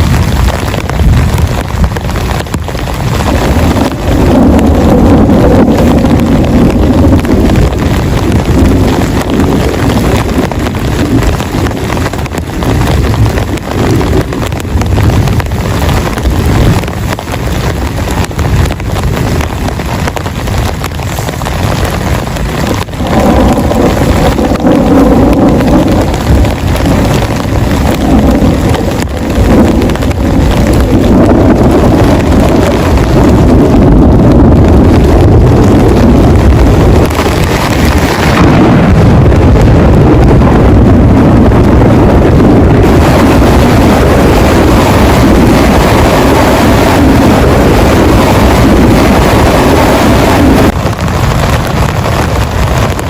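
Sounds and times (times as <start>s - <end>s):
deep rumble: 0.0s - 53.0s
heavy rain drumming on a shelter: 0.0s - 53.0s.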